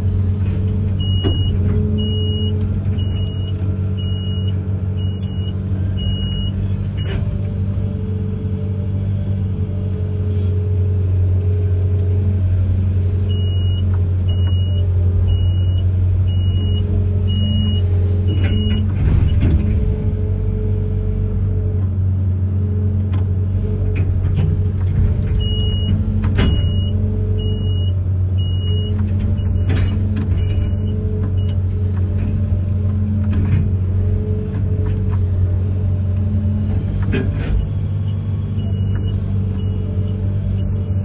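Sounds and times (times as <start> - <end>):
clunks: 0.0 - 8.5, 13.3 - 41.0
diesel engine running: 0.0 - 41.0.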